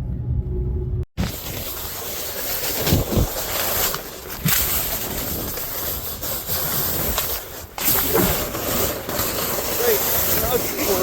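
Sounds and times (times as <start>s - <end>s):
snowboard scraping over snow: 1.2s - 11.0s.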